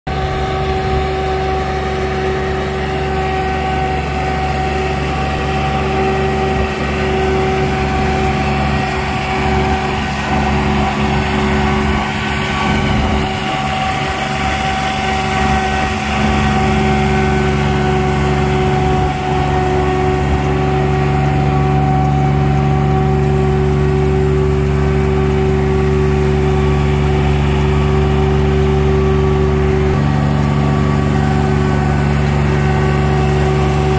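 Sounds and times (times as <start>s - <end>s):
sprayer engine and fan drone: 0.1s - 33.9s.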